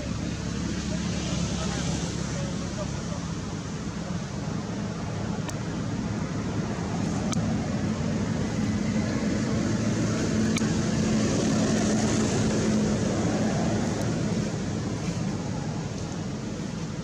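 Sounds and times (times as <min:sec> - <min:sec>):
low engine hum: 0:00.0 - 0:17.0
steady rushing noise: 0:00.0 - 0:17.0.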